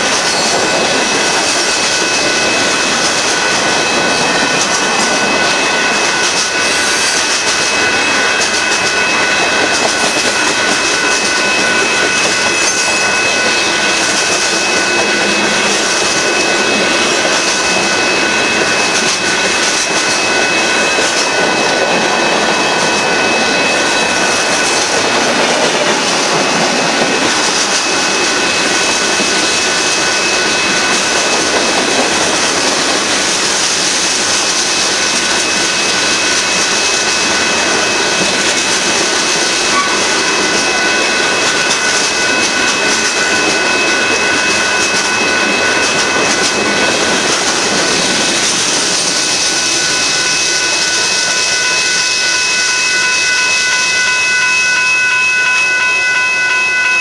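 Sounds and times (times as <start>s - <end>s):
freight train wheels on rail: 0.0s - 57.0s
high-pitched tones: 0.0s - 57.0s.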